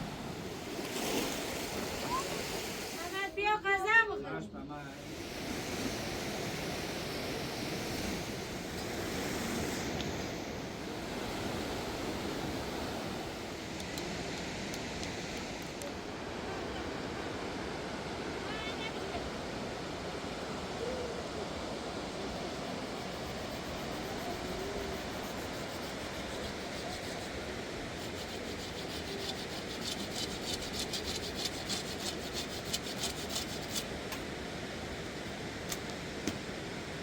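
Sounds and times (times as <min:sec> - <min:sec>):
river rushing: 0:00.0 - 0:03.3, 0:05.0 - 0:37.0.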